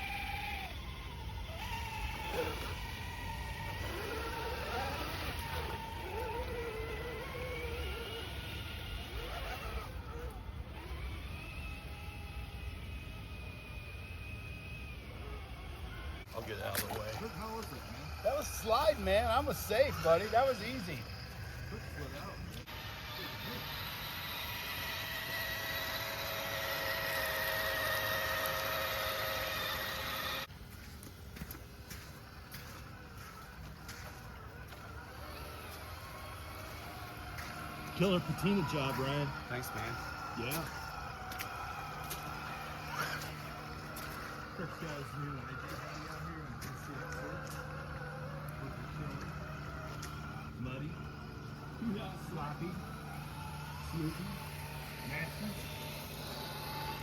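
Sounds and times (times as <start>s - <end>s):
electric motor and gears whining: 0.0s - 57.0s.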